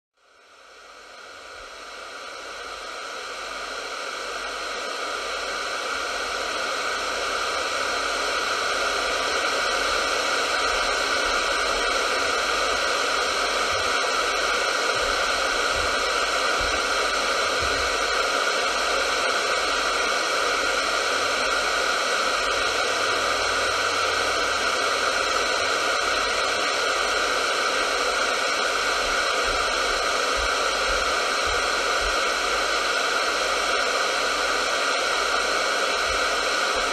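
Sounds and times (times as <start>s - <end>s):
radio static hiss: 0.7s - 36.9s.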